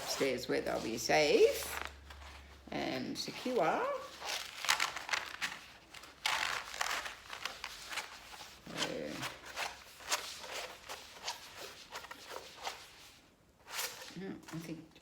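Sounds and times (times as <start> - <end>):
plastic film crinkling: 0.0 - 13.2.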